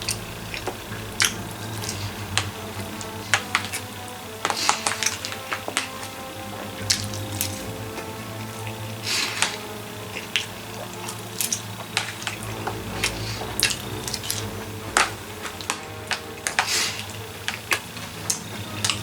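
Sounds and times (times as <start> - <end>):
steady low hum: 0.0 - 4.5, 6.1 - 19.0
chewing: 0.0 - 19.0.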